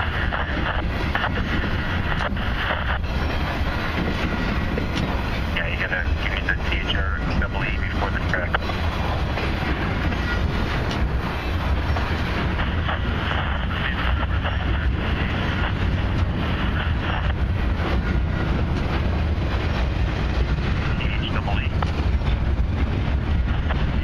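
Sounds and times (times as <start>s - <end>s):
rail clicks: 0.0s - 24.0s
train wheels rumbling on rail: 0.0s - 24.0s.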